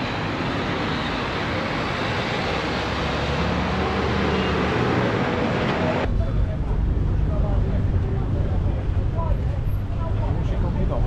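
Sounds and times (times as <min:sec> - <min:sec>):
broad rushing noise: 0:00.0 - 0:11.0.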